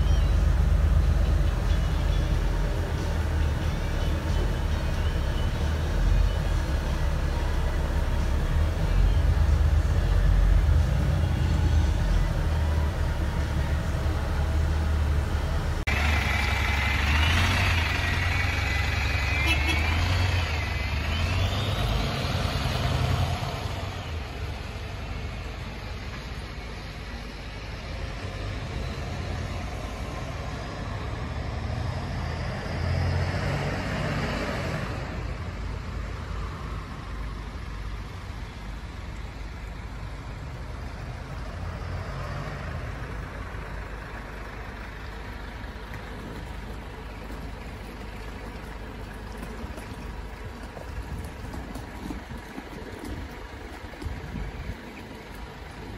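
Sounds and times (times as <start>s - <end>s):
bus engine driving away: 0.0s - 55.9s.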